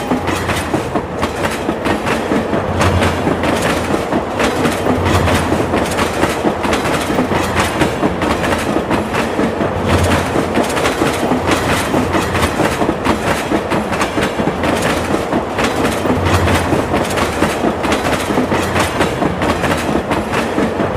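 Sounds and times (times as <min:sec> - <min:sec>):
train wheels clattering on rails: 0:00.0 - 0:20.9.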